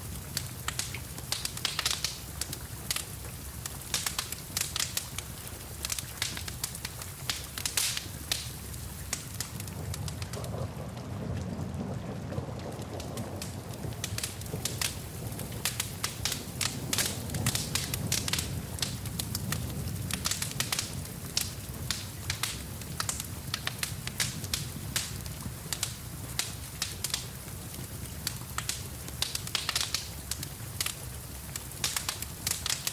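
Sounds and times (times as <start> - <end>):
rain hiss: 0.0 - 32.9
wood fire crackling and popping: 0.0 - 32.9.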